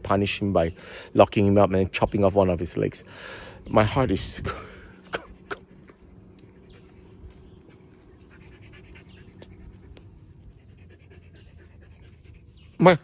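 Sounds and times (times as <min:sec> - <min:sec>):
faint birds: 0:00.0 - 0:13.0
faint insects: 0:00.0 - 0:13.0.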